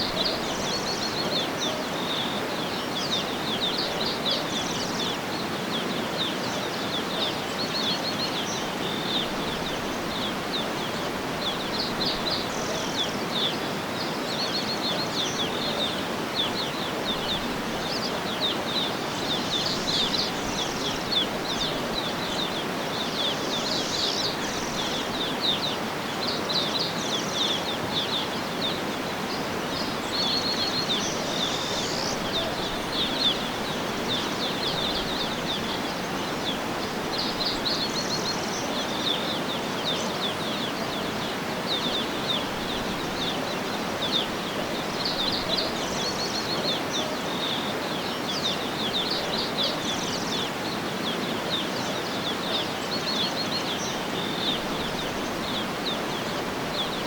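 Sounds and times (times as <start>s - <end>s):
outdoor background rush: 0.0s - 57.0s
small birds chirping and trilling: 0.0s - 57.0s.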